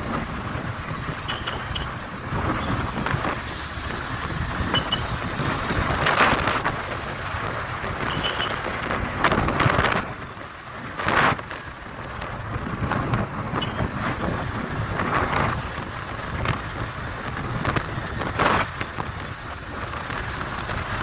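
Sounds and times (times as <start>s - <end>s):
motorcycle engine: 0.1s - 18.9s
wind buffeting microphone: 1.9s - 21.0s.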